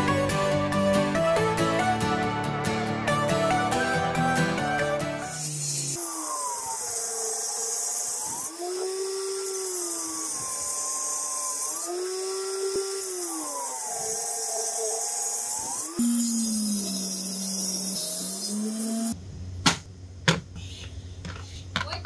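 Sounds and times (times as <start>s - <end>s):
table saw cutting wood: 0.0s - 19.2s.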